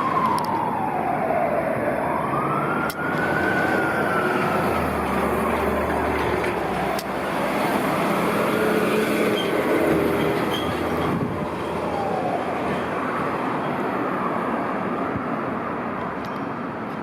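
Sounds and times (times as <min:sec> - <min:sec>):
fire truck siren wailing: 0:00.0 - 0:15.0
road traffic and engine noise: 0:00.0 - 0:17.0.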